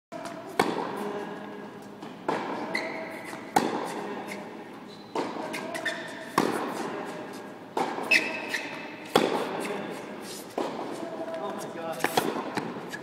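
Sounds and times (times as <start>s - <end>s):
tennis balls hit by rackets: 0.2s - 1.1s, 2.0s - 4.2s, 5.1s - 13.0s.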